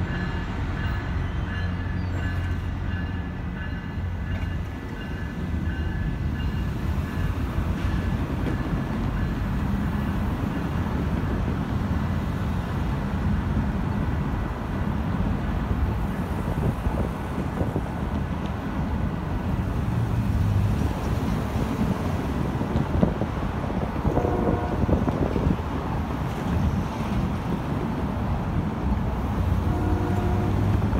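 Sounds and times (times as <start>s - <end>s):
diesel train rumbling: 0.0s - 30.9s.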